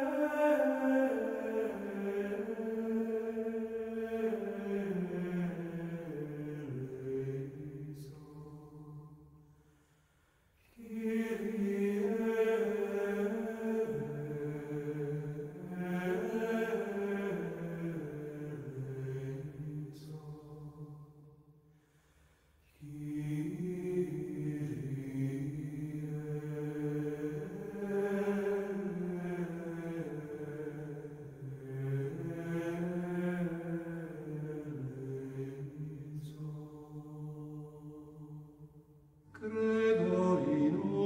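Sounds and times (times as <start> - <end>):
person singing unaccompanied chant: 0.0 - 8.8, 10.8 - 20.8, 22.8 - 38.4, 39.3 - 41.0.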